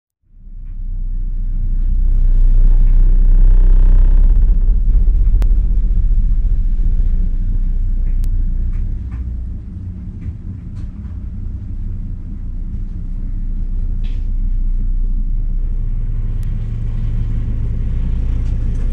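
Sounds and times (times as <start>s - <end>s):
construction machinery rumble: 0.3s - 18.9s.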